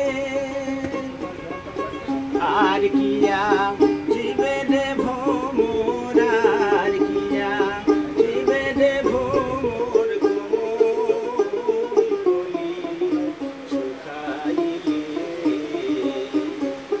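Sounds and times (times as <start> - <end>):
man singing: 0.0 - 17.0
plucked lute: 0.0 - 17.0.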